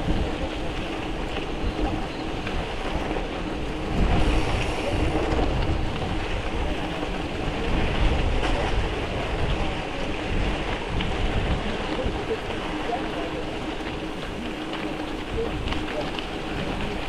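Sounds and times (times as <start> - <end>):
bike tyres crunching on gravel: 0.0 - 17.0
wind buffeting microphone: 0.0 - 17.0.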